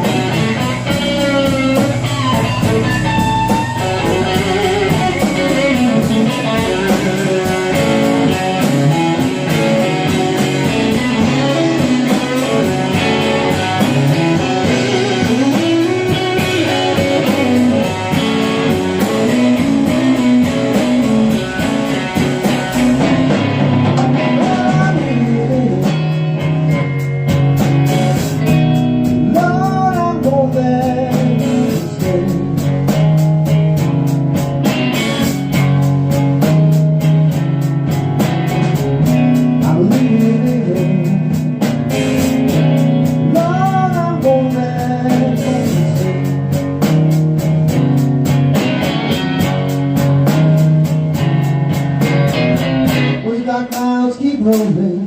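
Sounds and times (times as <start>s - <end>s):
electric guitar solo: 0.0s - 53.6s
bass: 0.0s - 55.0s
steady drum beat: 0.0s - 55.0s.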